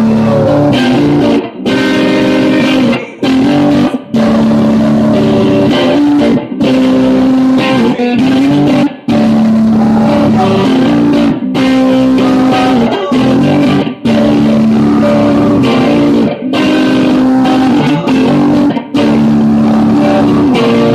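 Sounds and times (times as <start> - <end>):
man singing long notes: 0.0 - 6.4, 7.3 - 20.9
electric guitar chords: 0.0 - 20.9.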